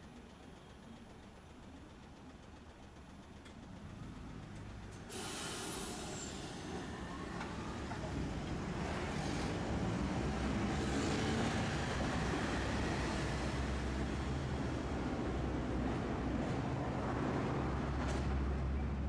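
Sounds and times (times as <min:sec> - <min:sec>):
streetcar running on rails: 0:00.0 - 0:19.0.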